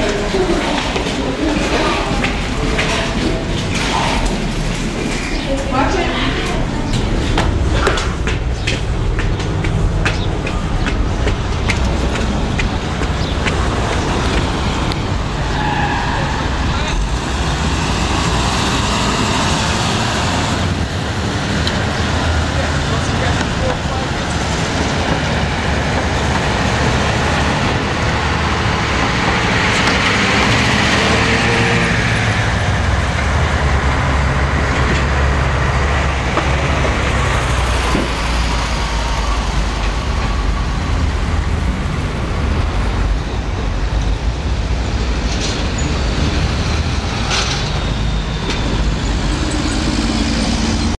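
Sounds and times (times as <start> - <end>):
loud vehicle passing: 0.0 - 51.0
traffic rumble of passing vehicles: 0.0 - 51.0.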